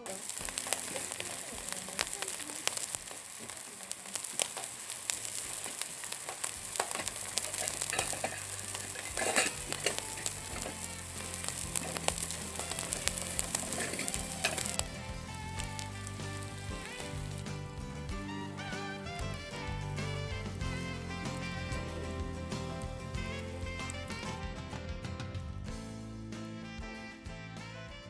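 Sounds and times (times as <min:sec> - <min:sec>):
background music: 0:00.0 - 0:03.7, 0:04.4 - 0:28.0
food sizzling in a pan: 0:00.0 - 0:24.4.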